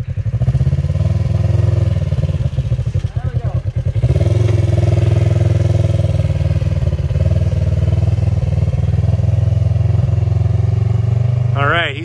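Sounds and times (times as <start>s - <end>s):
engine running at raised revs: 0.0s - 12.0s.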